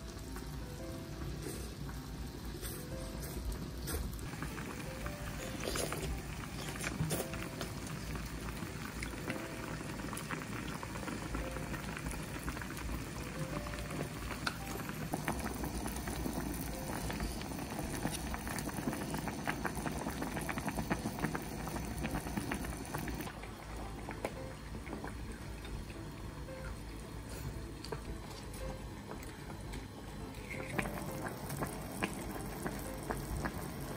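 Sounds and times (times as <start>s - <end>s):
broth bubbling at a boil: 0.0s - 28.1s, 28.8s - 33.9s.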